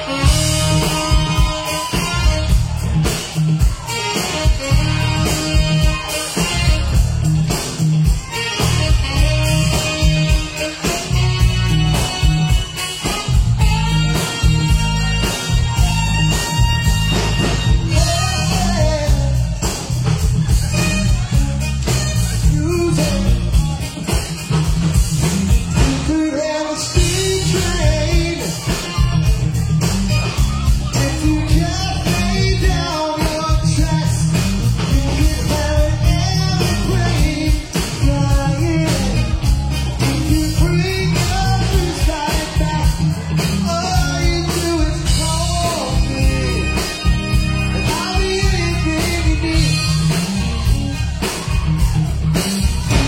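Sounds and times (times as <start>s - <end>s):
lead voice singing: 0.0s - 53.0s
rock band playing: 0.0s - 53.0s.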